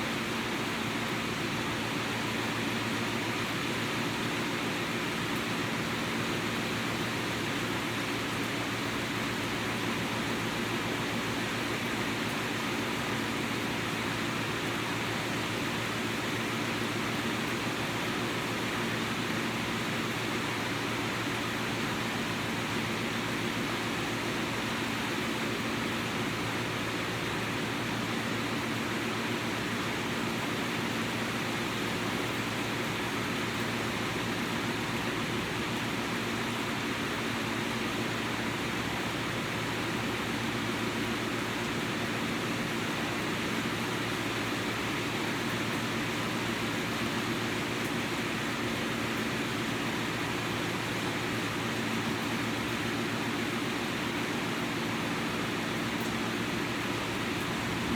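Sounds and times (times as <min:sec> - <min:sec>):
steady rain hiss: 0:00.0 - 0:57.9.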